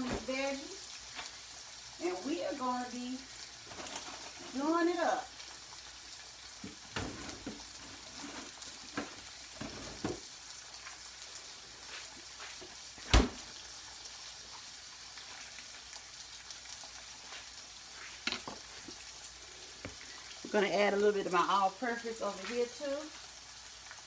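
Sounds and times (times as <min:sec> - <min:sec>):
meat sizzling in a skillet: 0:00.0 - 0:24.0.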